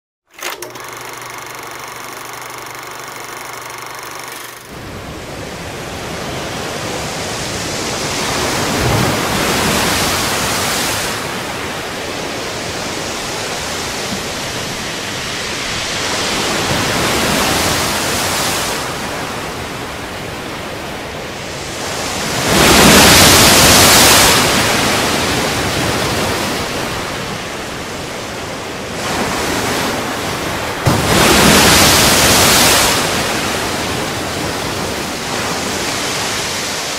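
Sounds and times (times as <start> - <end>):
waves breaking: 4.2 - 36.9.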